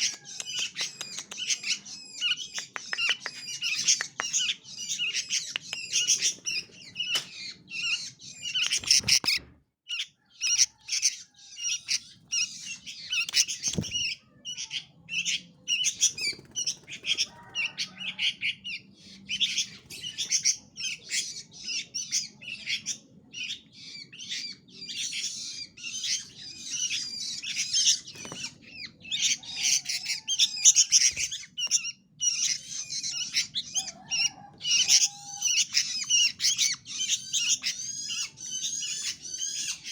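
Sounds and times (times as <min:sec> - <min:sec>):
songbirds chattering squawks: 0:00.0 - 0:39.9.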